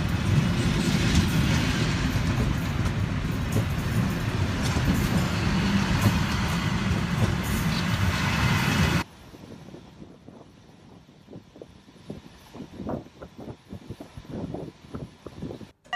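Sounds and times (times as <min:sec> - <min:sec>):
train rumbling along rails: 0:00.0 - 0:15.8.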